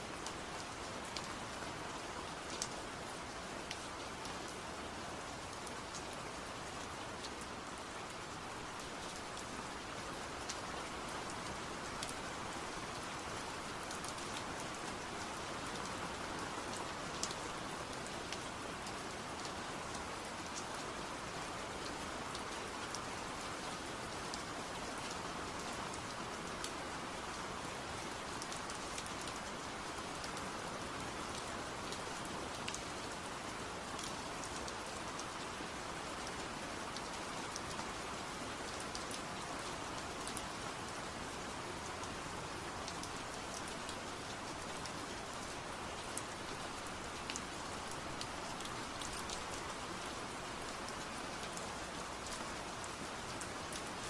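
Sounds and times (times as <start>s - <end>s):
steady rain hiss: 0.0s - 54.0s
raindrops ticking on surface: 0.1s - 3.0s, 3.6s - 4.6s, 5.3s - 30.4s, 31.0s - 54.0s.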